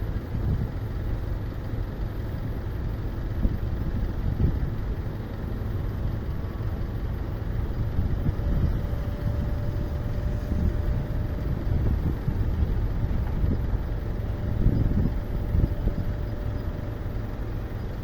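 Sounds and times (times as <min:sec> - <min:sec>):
jet engines of landing airliner: 0:00.0 - 0:18.0
strong wind buffeting microphone: 0:00.0 - 0:18.0.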